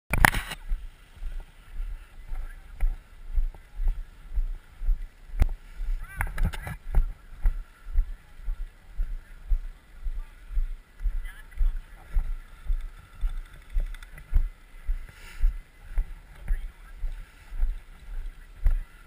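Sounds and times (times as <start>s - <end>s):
footsteps on dry grass: 0.1s - 19.0s.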